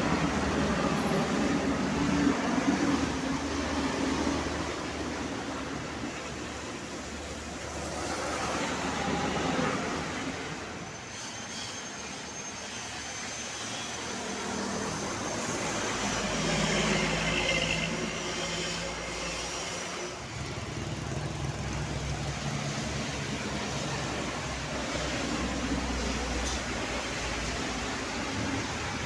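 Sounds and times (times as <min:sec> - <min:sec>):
heavy vehicles passing: 0:00.0 - 0:10.9, 0:14.1 - 0:29.0.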